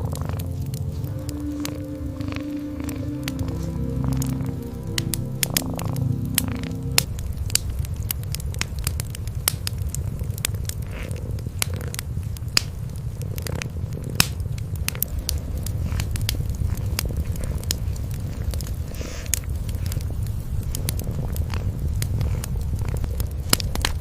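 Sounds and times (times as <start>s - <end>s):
cats purring: 0.0s - 24.0s
wood fire crackling and popping: 0.0s - 24.0s.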